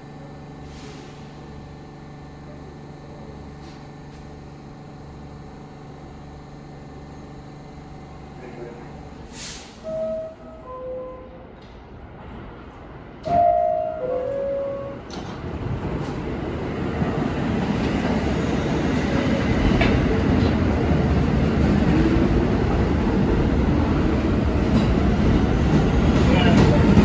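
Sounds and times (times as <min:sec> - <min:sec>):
subway train rumble and wheel noise: 0:00.0 - 0:27.0.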